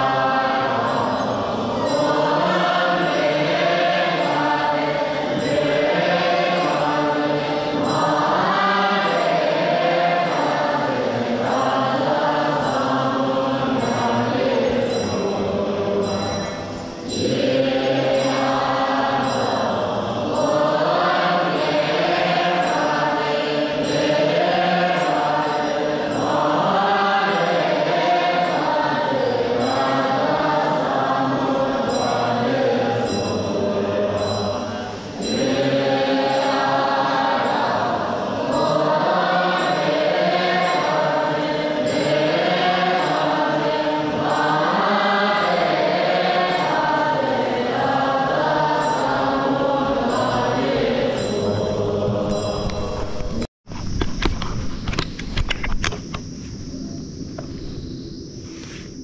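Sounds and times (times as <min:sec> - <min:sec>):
monks chanting in unison: 0:00.0 - 0:53.5.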